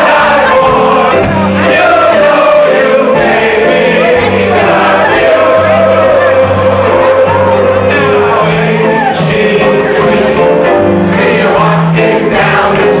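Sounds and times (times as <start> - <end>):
group singing into microphones: 0.0 - 13.0
instrumental accompaniment with beat: 0.0 - 13.0.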